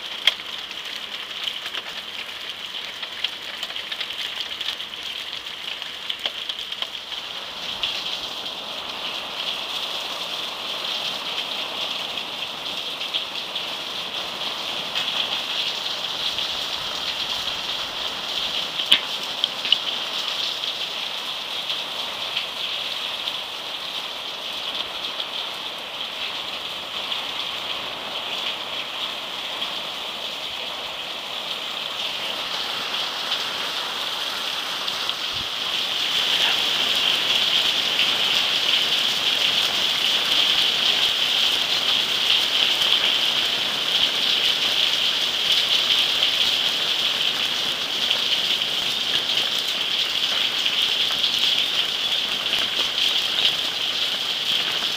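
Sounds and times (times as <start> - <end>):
heavy rain on corrugated roofs: 0.0 - 54.9.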